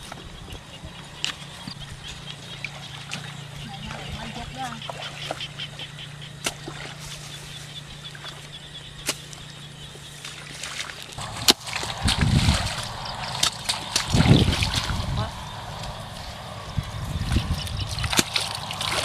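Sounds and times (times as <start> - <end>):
steady low hum: 0.0 - 19.0
water sloshing and splashing: 0.0 - 19.0.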